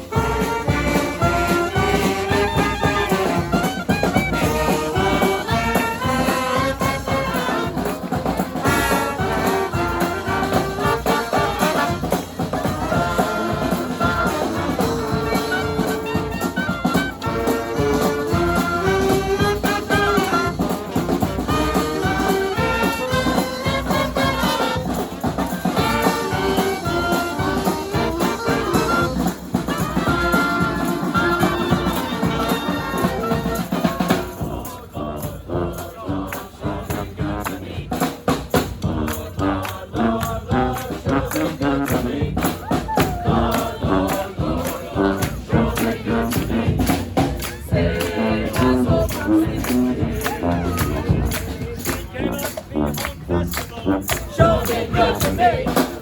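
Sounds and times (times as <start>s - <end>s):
horns playing a melody: 0.0s - 56.0s
steady drum beat: 0.0s - 56.0s.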